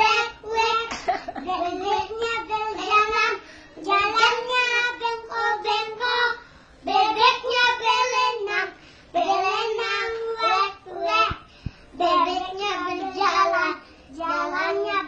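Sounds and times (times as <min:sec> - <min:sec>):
young children singing: 0:00.0 - 0:15.0.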